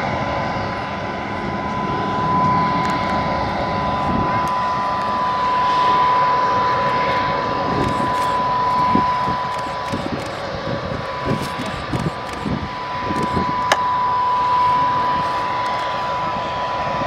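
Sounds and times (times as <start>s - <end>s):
jet engine whine: 0.0s - 17.0s.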